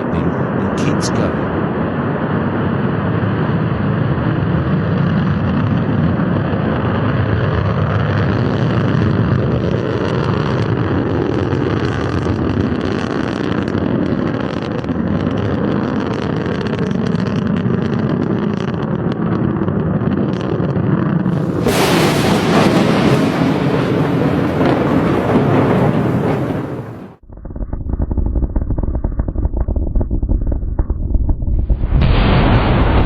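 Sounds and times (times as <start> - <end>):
rocket engines rumbling: 0.0 - 33.0.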